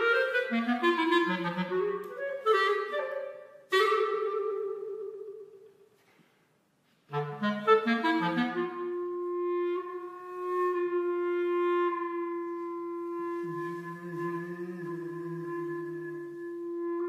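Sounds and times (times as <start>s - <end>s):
solo clarinet: 0.0s - 6.1s, 7.0s - 17.0s.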